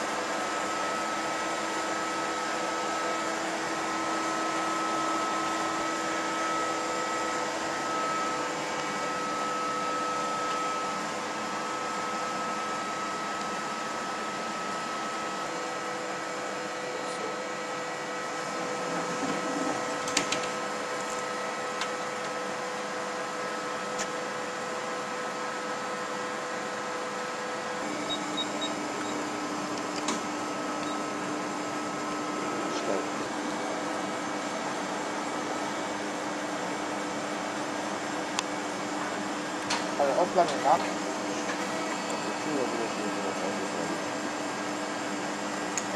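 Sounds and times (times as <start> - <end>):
lathe machine hum and whine: 0.0 - 45.9.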